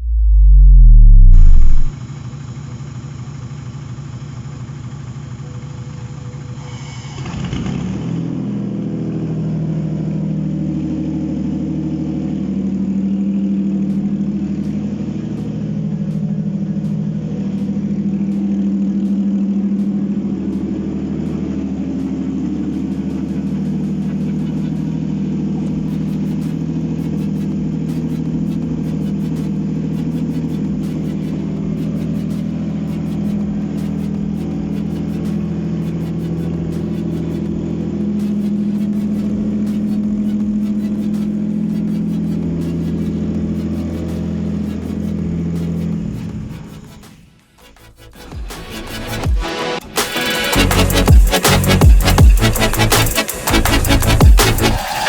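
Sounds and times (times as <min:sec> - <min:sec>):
engine starting and running: 0:00.0 - 0:55.0.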